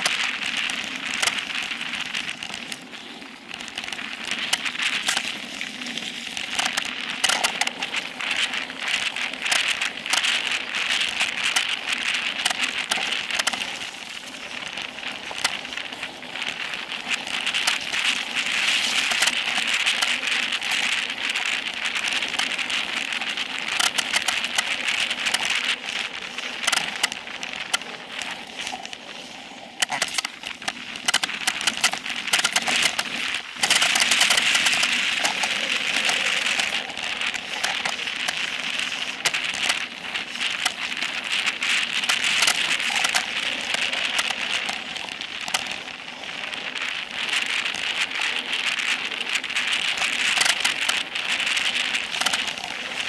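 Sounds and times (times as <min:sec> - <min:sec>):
bike rattling over bumps: 0:00.0 - 0:53.0
bike tyres rushing over dirt: 0:00.0 - 0:53.0.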